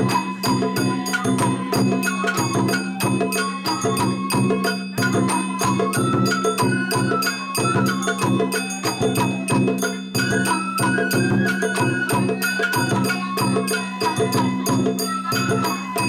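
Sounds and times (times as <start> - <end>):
percussion strikes: 0.0 - 16.0.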